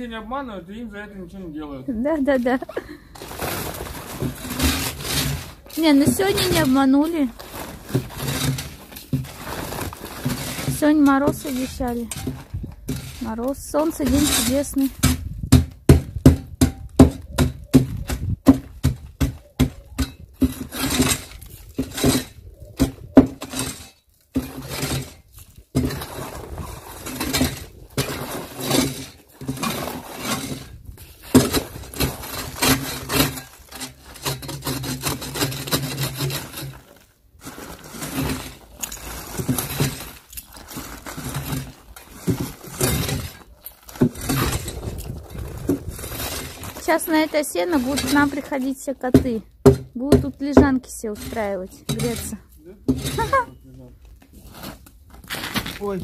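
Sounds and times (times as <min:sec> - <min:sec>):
shovel scraping concrete: 0:02.4 - 0:49.4, 0:50.1 - 0:53.6, 0:54.3 - 0:56.0
shovel chopping ice: 0:03.2 - 0:44.7, 0:46.0 - 0:53.4.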